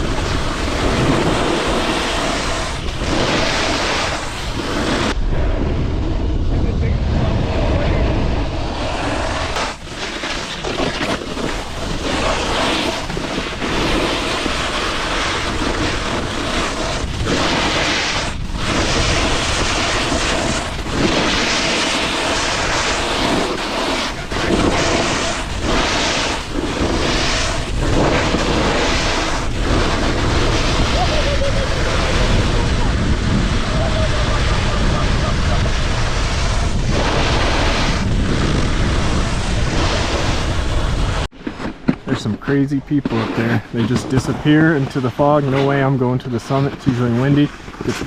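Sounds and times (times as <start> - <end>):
snowboard sliding over snow: 0.0 - 48.0
wind on microphone: 0.0 - 48.0.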